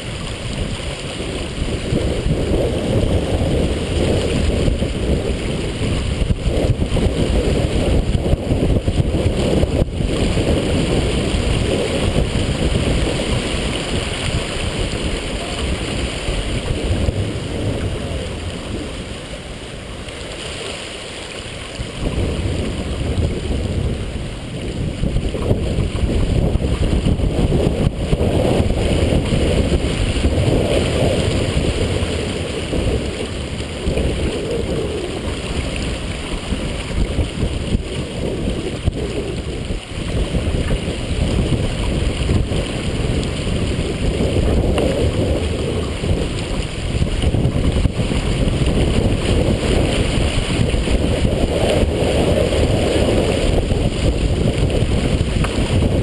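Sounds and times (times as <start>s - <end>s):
water splashing along a hull: 0.0s - 56.0s
wind buffeting microphone: 0.0s - 56.0s.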